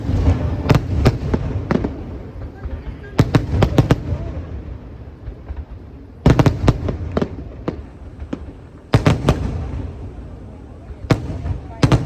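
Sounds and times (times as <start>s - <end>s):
fireworks pops: 0.0s - 10.2s
fireworks bangs: 0.0s - 12.0s.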